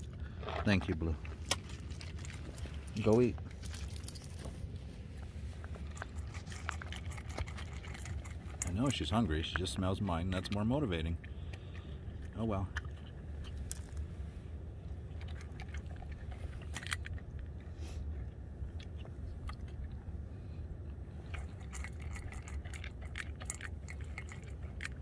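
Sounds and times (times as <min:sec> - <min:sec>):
dog crunching kibble: 0:00.0 - 0:20.1, 0:21.1 - 0:25.0.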